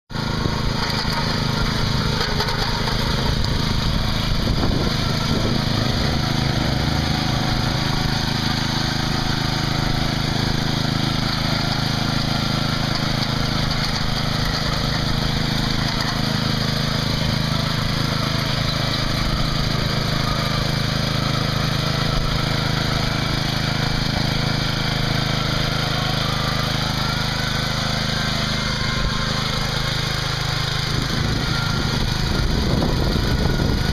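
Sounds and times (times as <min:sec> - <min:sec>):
lawn mower engine running: 0:00.1 - 0:33.9.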